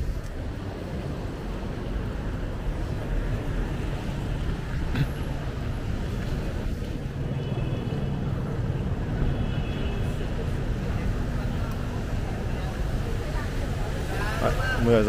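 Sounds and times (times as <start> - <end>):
traffic rumble on wet street: 0.0 - 15.0.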